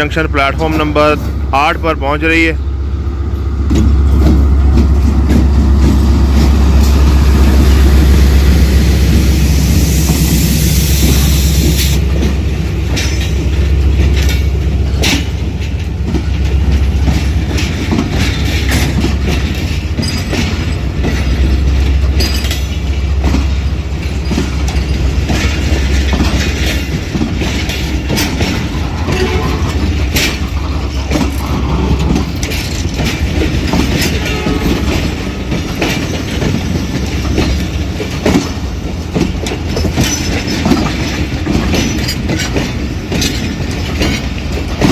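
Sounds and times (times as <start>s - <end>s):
wheels clacking over rail joints: 0.0s - 9.5s, 11.0s - 44.9s
train wheels rumbling: 0.0s - 44.9s.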